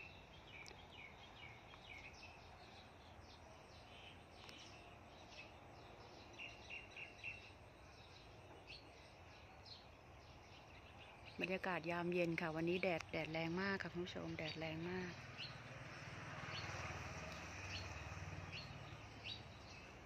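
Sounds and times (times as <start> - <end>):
low outdoor background hiss: 0.0 - 20.0.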